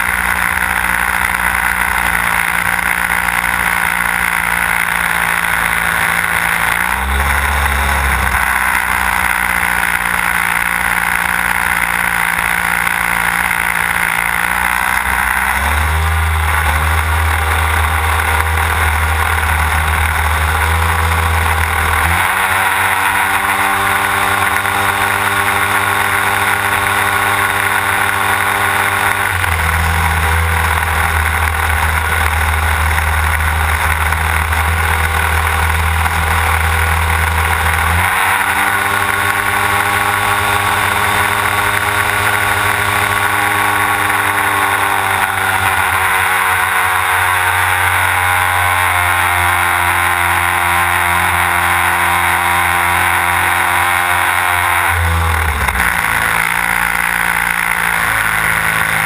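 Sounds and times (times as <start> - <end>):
model plane engine: 0.0 - 59.0.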